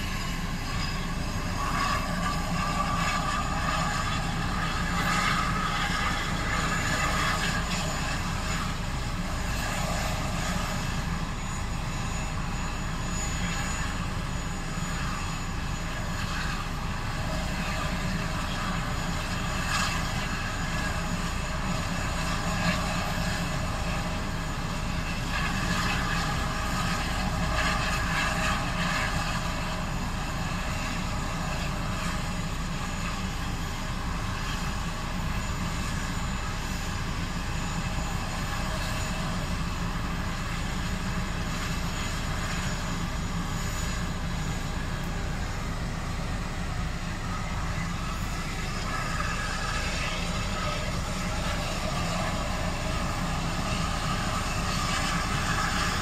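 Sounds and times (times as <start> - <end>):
helicopter rotor turning: 0.0 - 56.0
turbine whine: 0.0 - 56.0.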